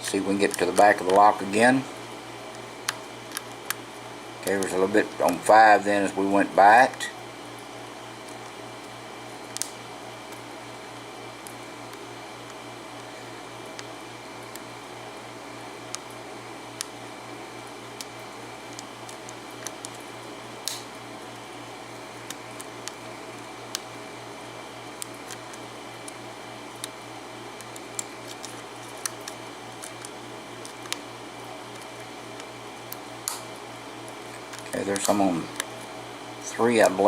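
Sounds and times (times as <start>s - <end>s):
low electrical hum: 0.0s - 37.0s.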